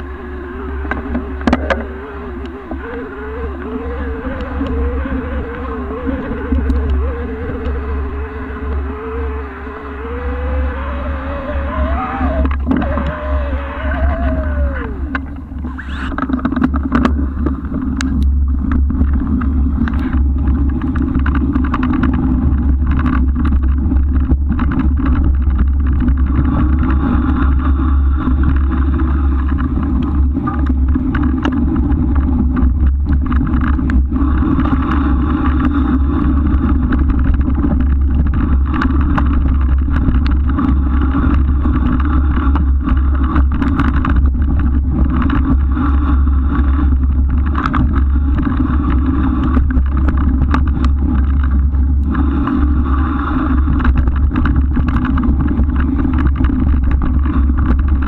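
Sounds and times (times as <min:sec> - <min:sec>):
rolling bike tyres: 0:00.0 - 0:58.0
small clicks and rattles: 0:00.0 - 0:58.0
wind rumble: 0:00.0 - 0:58.0.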